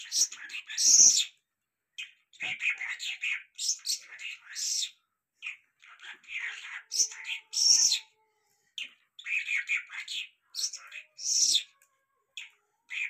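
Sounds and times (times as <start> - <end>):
songbird singing high chirps and trills: 0.0 - 1.4, 2.0 - 8.2, 8.8 - 13.0.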